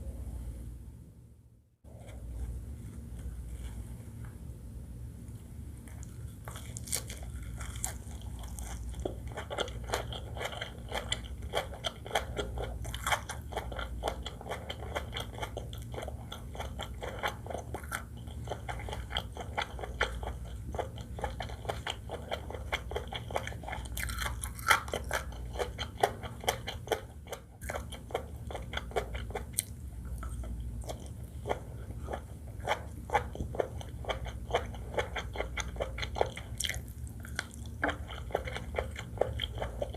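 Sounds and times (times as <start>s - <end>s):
chewing and biting food: 5.8s - 39.9s.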